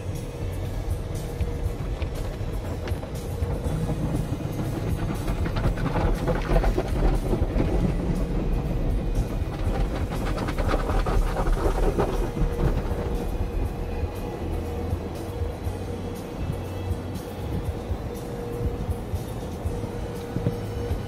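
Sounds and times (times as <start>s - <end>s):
low rumble of wash machinery: 0.0s - 21.0s
water jets hitting car: 0.8s - 21.0s.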